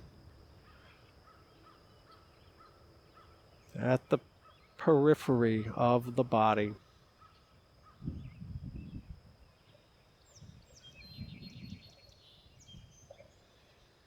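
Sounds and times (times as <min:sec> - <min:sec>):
faint songbirds chirping: 0:00.0 - 0:14.0.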